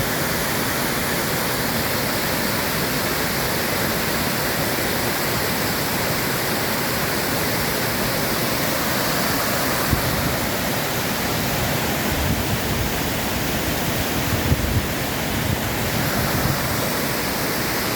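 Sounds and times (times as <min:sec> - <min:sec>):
waterfall pouring and splashing: 0:00.0 - 0:17.9.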